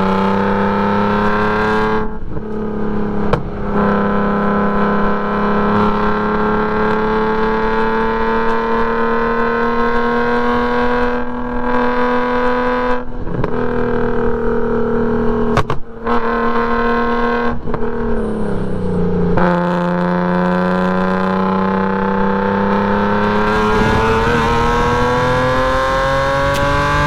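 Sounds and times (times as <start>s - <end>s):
car engine revving under load: 0.0s - 27.0s.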